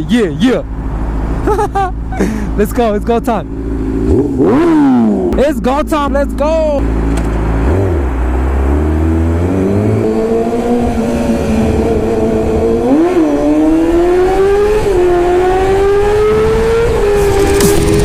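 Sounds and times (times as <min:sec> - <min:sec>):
motorcycle engine accelerating: 0:00.7 - 0:18.0.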